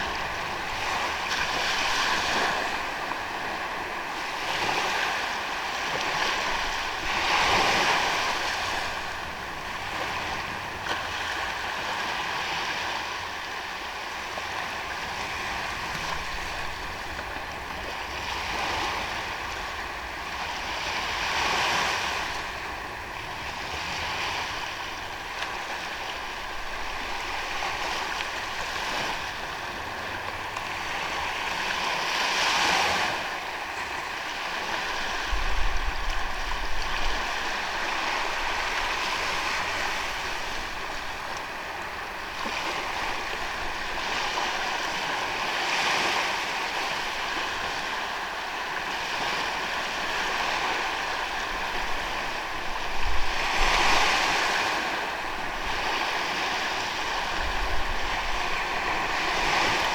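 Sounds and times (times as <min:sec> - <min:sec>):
ocean waves on a sandy beach: 0:00.0 - 0:59.9.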